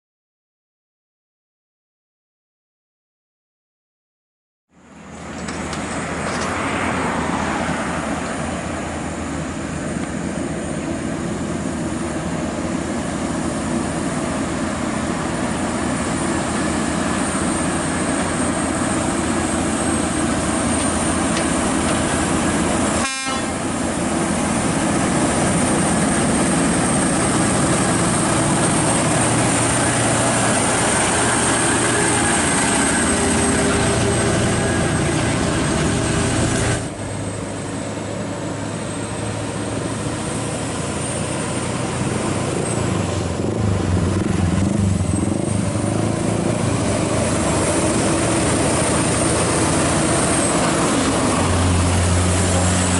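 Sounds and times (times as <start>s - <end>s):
truck engines running under load: 4.8s - 52.9s
tyre and road noise: 4.8s - 52.9s.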